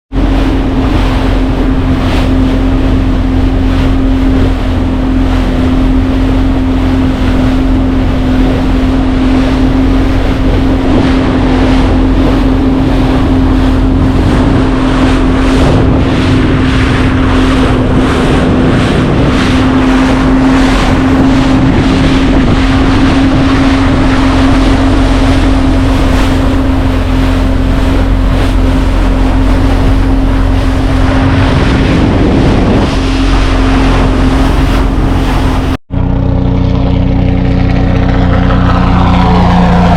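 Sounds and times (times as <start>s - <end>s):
boat engine running: 0.0s - 39.9s
wind buffeting microphone: 0.1s - 39.9s.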